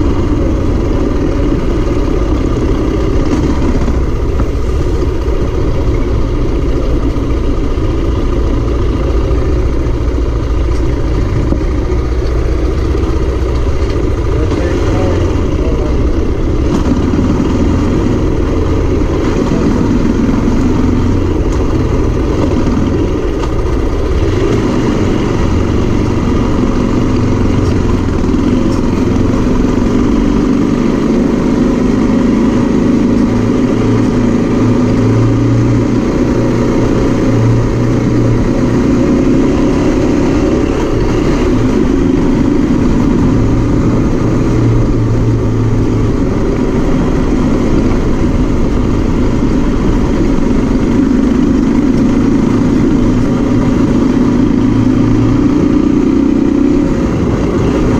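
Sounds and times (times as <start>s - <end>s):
motorcycle engine at low revs: 0.0s - 57.9s
wind and road noise: 0.0s - 57.9s.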